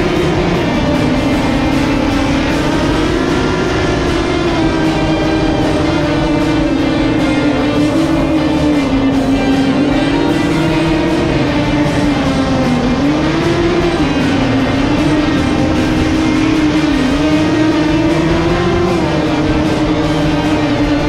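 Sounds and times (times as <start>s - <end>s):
rock music with guitar: 0.0s - 21.0s
truck engine revving: 0.0s - 21.0s.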